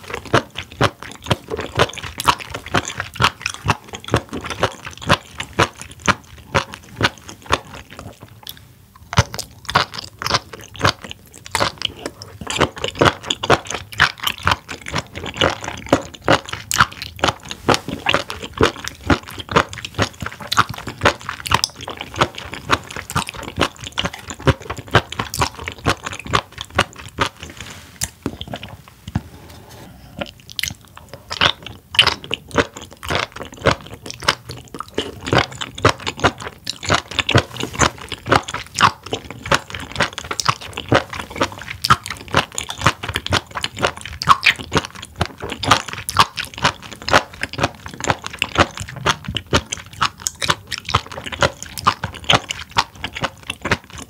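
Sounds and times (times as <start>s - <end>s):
wet crunchy chewing: 0.0s - 54.0s.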